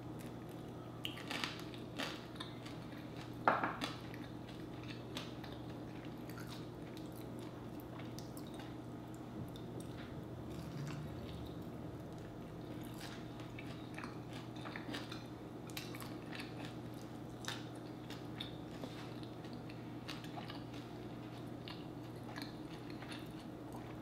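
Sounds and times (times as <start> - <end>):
steady low hum: 0.0 - 24.0
person chewing with mouth clicks: 0.2 - 24.0.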